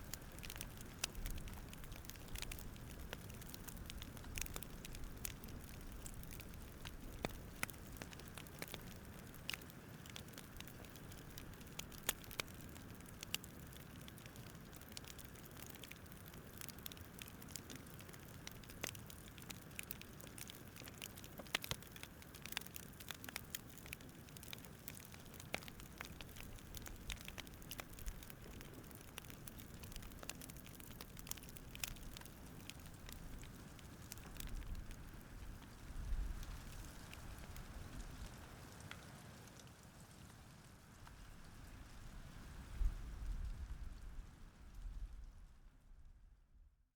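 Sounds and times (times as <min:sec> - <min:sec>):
low rush of fire: 0:00.0 - 0:39.6
campfire crackling and popping: 0:00.0 - 0:45.4.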